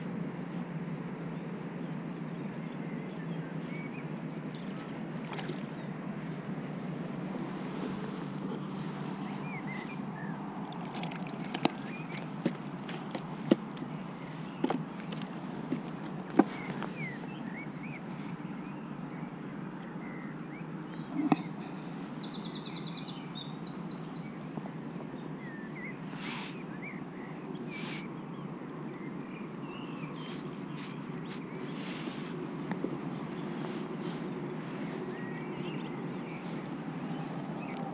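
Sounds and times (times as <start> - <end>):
outdoor background rush: 0.0 - 37.9
small birds chirping: 0.0 - 37.9.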